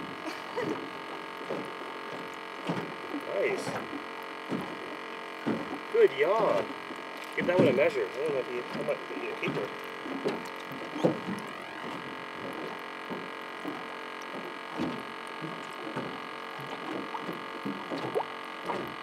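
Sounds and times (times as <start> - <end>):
electric hum: 0.0 - 19.0.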